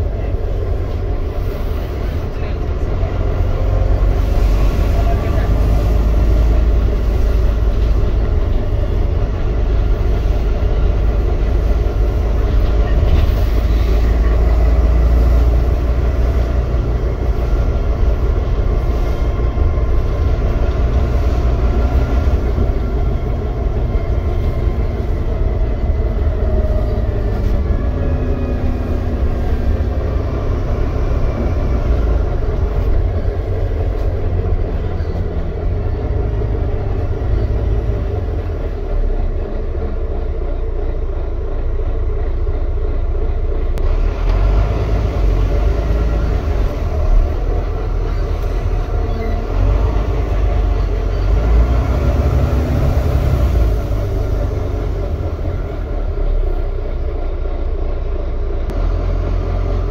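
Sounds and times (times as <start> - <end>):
bus diesel engine rumble: 0.0 - 59.9
road noise: 0.0 - 59.9.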